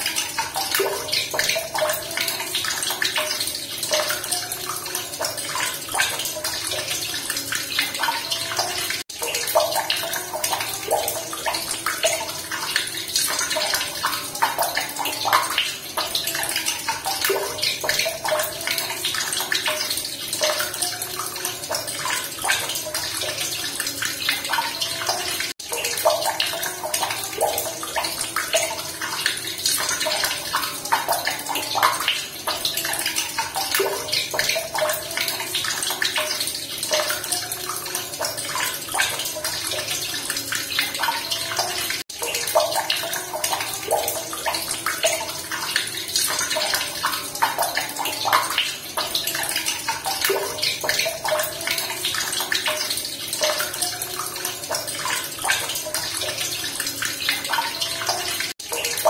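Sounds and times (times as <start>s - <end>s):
running water splashing: 0.0s - 59.0s.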